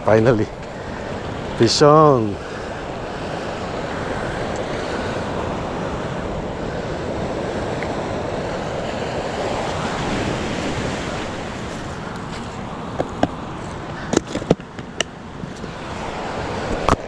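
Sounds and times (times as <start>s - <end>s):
ocean surf on beach: 0.0s - 17.0s
wind on microphone: 0.0s - 17.0s.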